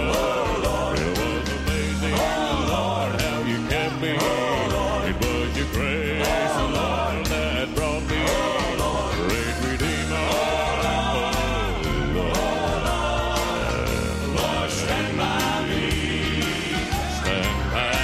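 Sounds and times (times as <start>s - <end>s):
band playing steady beat: 0.0s - 18.0s
male quartet singing in harmony: 0.0s - 18.0s.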